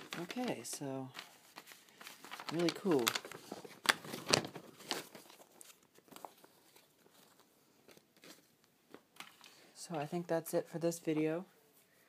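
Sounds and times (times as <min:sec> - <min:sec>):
paper rustling and crinkling: 0:00.0 - 0:10.3.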